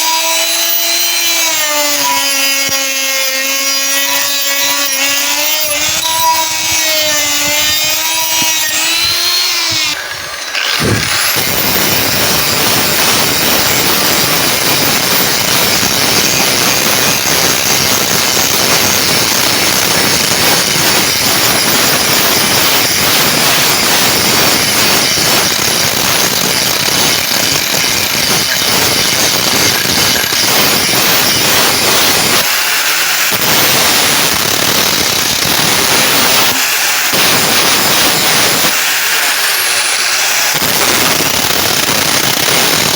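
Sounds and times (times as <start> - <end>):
abrasive grinding on metal: 0.0 - 42.7
power tool motor whine: 0.0 - 42.9.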